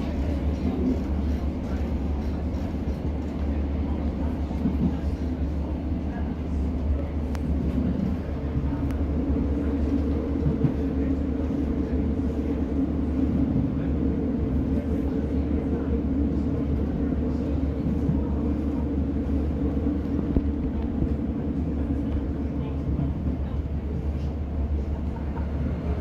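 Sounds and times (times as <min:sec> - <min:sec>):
diesel train engine rumble: 0:00.0 - 0:26.0.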